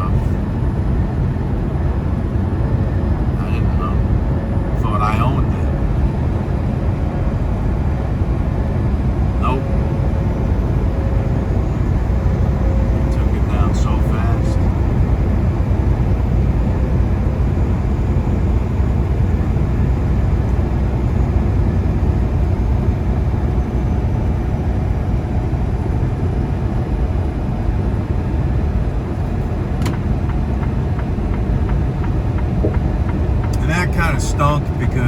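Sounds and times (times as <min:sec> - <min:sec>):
road noise: 0:00.0 - 0:35.0
truck engine rumble: 0:00.0 - 0:35.0.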